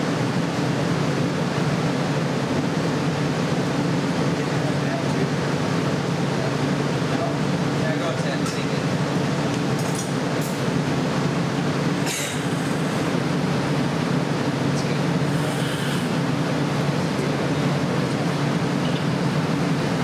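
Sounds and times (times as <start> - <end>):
gas burners and blowers roaring: 0.0 - 20.0.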